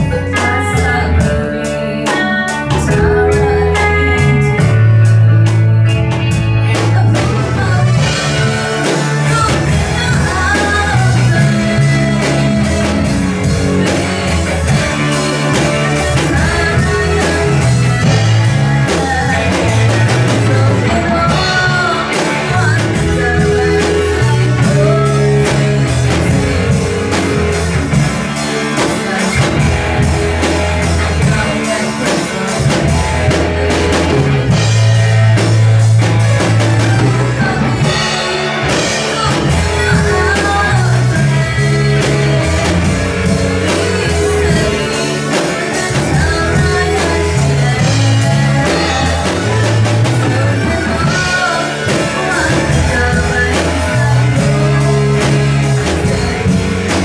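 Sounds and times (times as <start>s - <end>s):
woman singing into microphone: 0.0s - 34.7s, 36.7s - 57.0s
drum kit: 0.0s - 57.0s
live band playing: 0.0s - 57.0s
low bass line: 2.6s - 57.0s.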